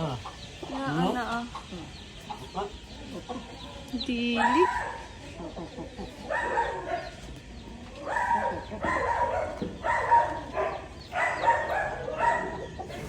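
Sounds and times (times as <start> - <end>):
animal calling: 0.0 - 13.0.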